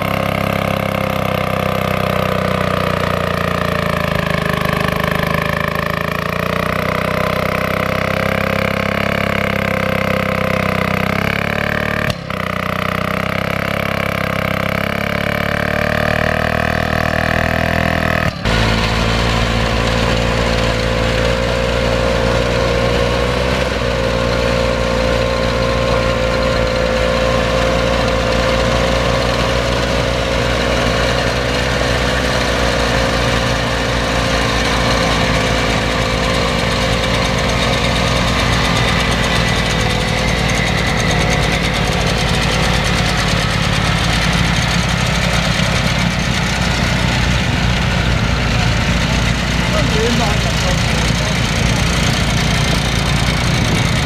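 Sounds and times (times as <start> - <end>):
small tiller engines running: 0.0 - 54.0.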